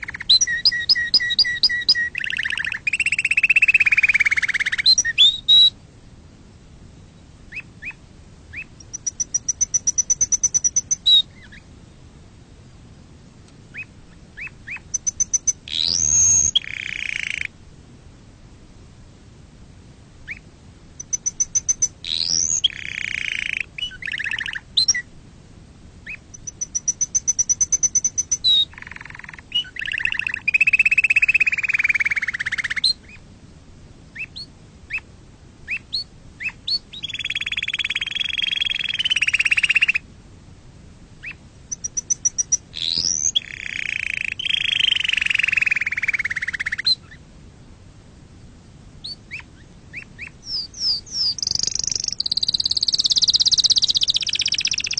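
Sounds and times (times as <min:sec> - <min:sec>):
canary singing trills: 0:00.0 - 0:05.8, 0:07.0 - 0:11.7, 0:13.7 - 0:17.6, 0:20.2 - 0:25.1, 0:26.0 - 0:33.2, 0:34.1 - 0:40.0, 0:41.2 - 0:47.2, 0:49.0 - 0:54.9.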